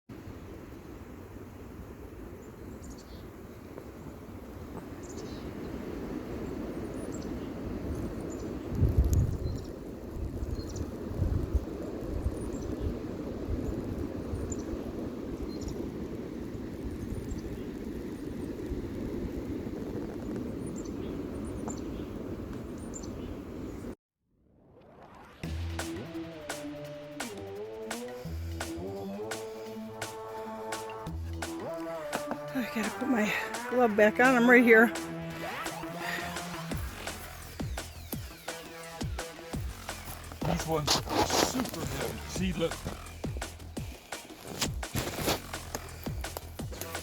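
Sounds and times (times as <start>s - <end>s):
rushing outdoor noise: 0.1s - 24.0s, 24.8s - 47.0s.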